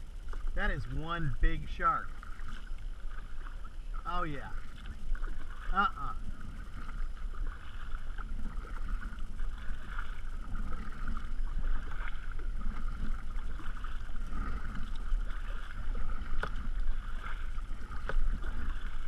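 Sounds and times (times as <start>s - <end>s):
water lapping against kayak hull: 0.0s - 19.0s.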